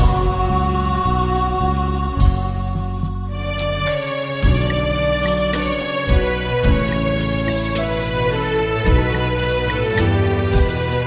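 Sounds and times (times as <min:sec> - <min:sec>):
held chords over bass line: 0:00.0 - 0:11.0.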